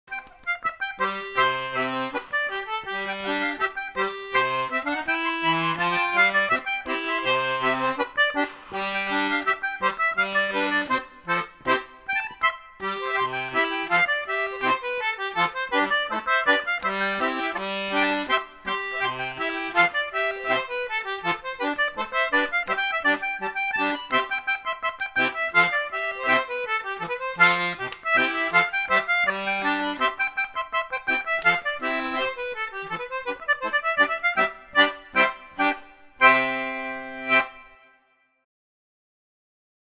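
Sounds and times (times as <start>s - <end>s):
concertina playing a tune: 0.1s - 38.0s.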